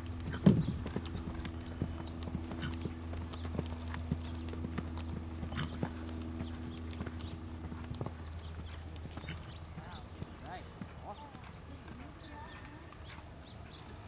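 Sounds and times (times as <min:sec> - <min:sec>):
horse hoofbeats on sand: 0:00.0 - 0:14.0
steady low hum: 0:00.0 - 0:14.0.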